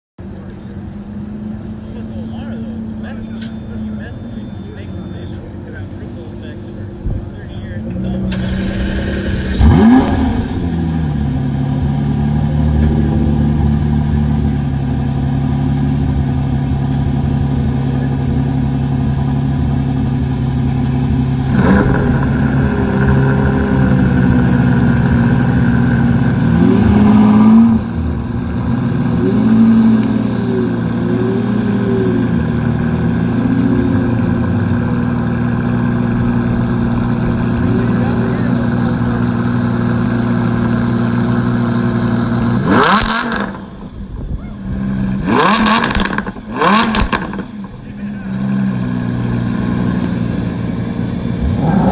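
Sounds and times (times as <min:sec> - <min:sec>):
car engine starting and idling: 0:00.2 - 0:51.9.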